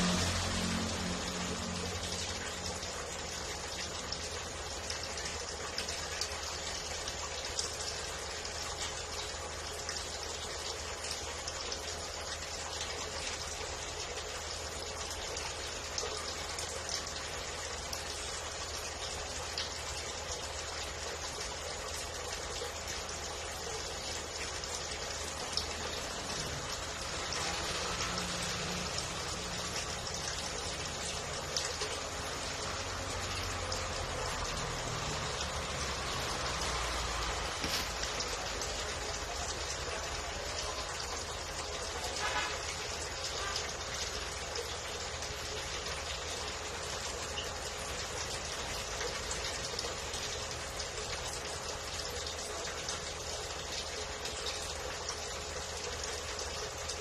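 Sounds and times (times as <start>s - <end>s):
faint electrical hum: 0.0s - 57.0s
filter water splashing and trickling: 0.0s - 57.0s.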